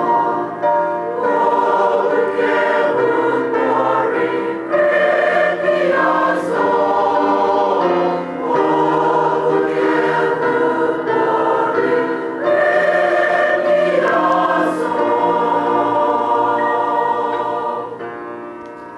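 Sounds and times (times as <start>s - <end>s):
choir singing: 0.0s - 18.5s.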